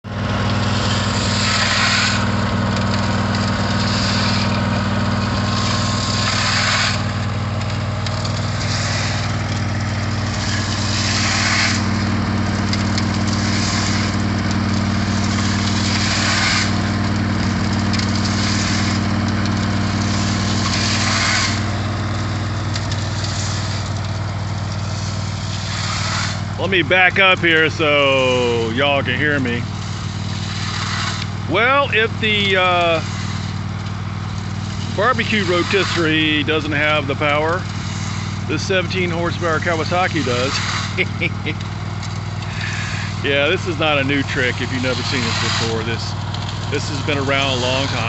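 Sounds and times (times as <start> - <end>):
mower engine running: 0.0 - 48.0
gravel and water tumbling in tank: 0.1 - 27.9, 28.5 - 41.0, 41.6 - 48.0.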